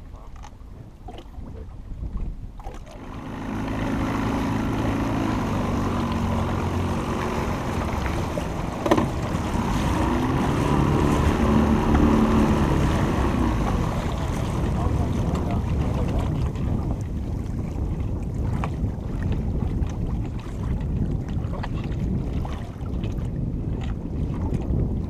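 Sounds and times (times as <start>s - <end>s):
wind buffeting microphone: 0.0s - 25.0s
boat motor running: 2.4s - 25.0s.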